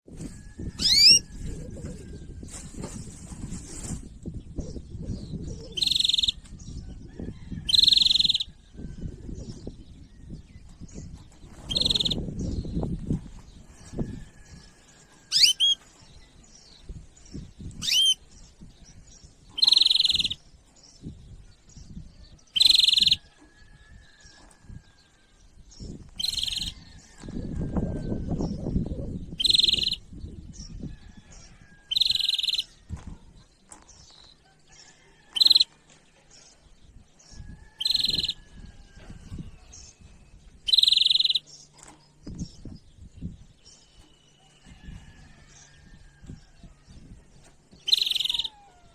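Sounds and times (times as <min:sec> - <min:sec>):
small birds chirping: 0:00.2 - 0:48.9.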